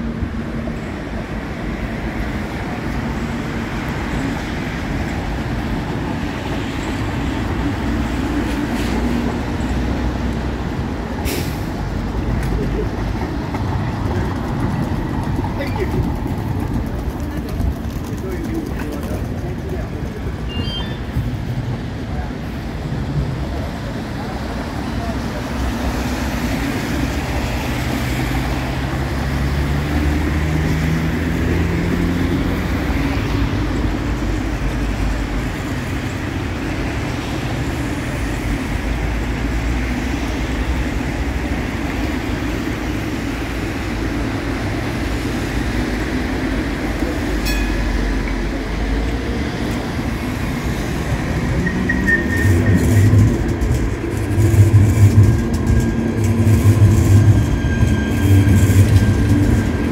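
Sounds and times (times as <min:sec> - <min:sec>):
cars passing: 0:00.0 - 0:59.9
train wheels rumbling on rails: 0:00.0 - 0:59.9.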